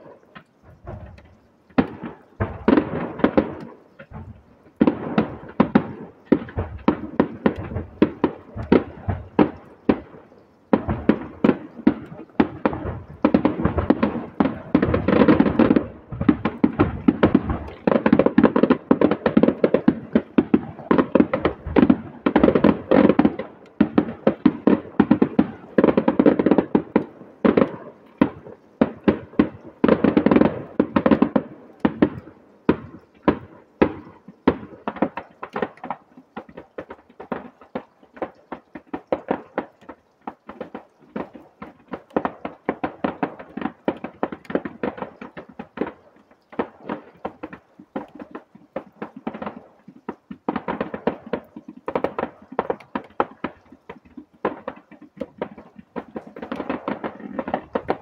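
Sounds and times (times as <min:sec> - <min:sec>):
distant fireworks bangs and crackles: 0:00.0 - 0:58.0.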